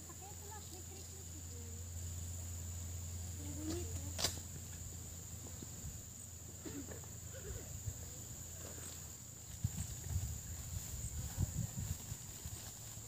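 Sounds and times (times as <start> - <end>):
low hum: 0.0 - 12.5
insects trilling: 0.0 - 13.0.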